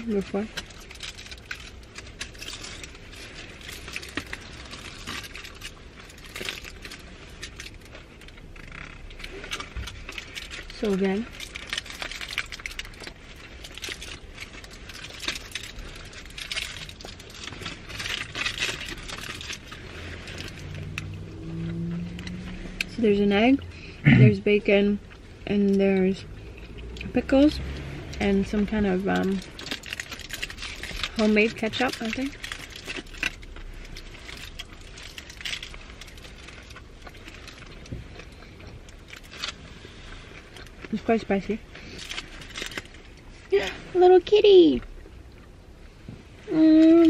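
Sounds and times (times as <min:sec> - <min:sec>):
foil wrappers crinkling: 0:00.0 - 0:23.8, 0:24.6 - 0:45.2
low rumble inside a car: 0:00.0 - 0:47.0.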